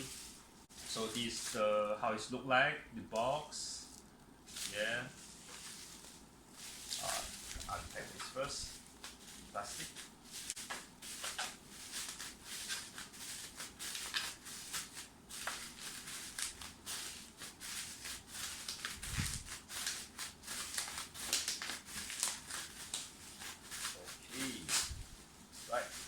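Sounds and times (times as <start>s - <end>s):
plastic wrapping crinkling: 0.0s - 1.6s, 3.9s - 26.0s.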